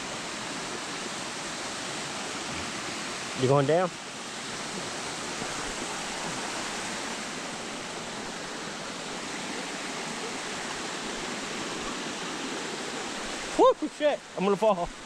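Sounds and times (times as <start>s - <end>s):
water rushing in stream: 0.0s - 15.0s.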